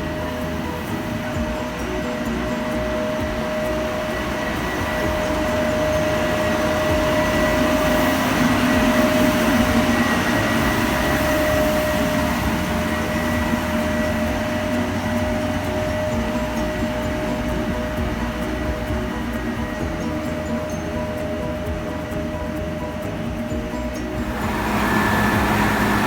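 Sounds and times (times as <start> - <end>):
heavy machinery drone and whine: 0.0 - 26.0.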